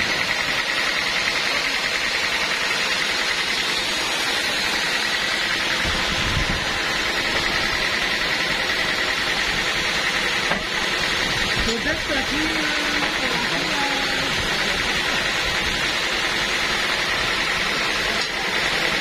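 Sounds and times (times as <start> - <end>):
band saw running: 0.0 - 19.0.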